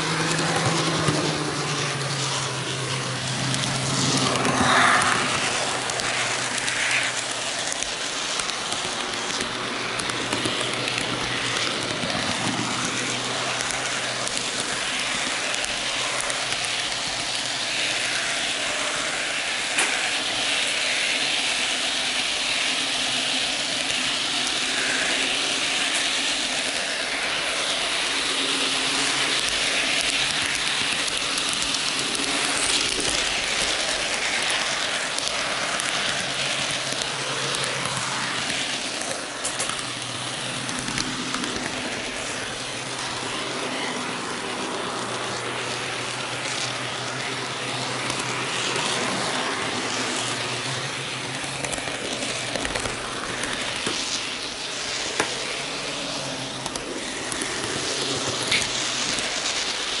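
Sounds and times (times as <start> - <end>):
metal wheels hissing on rail: 0.0 - 60.0.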